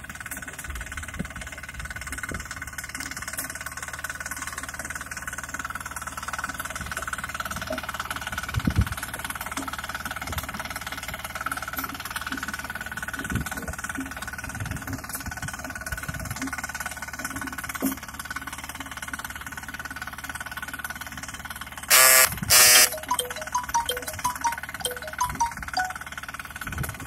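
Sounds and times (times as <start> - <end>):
power tiller engine running: 0.0 - 27.0.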